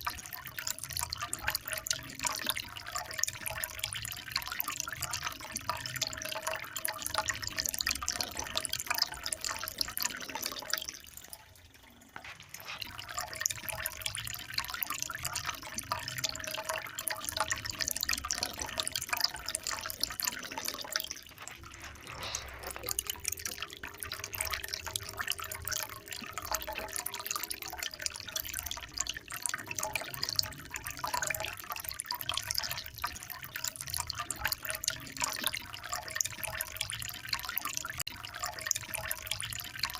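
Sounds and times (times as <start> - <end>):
water splashing and dripping: 0.0 - 39.9.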